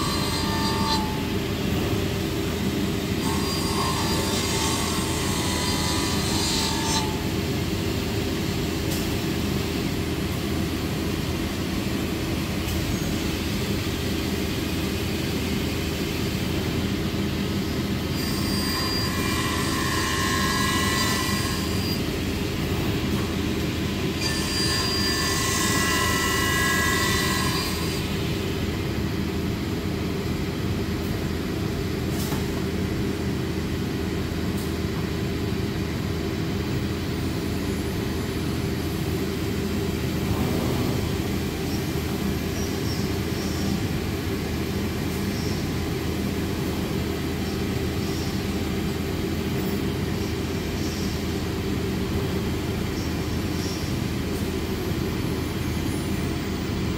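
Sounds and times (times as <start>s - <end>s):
dust collector drone: 0.0s - 56.9s.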